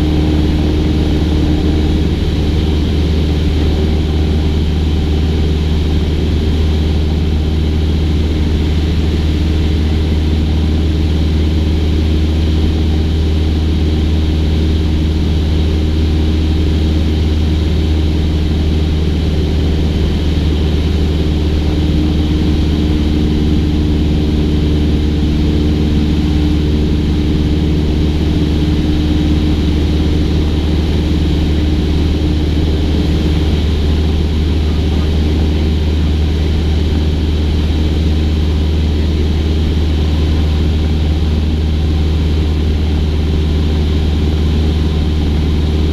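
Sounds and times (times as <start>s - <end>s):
higher steady hum: 0.0s - 45.9s
propeller plane engine drone: 0.0s - 45.9s.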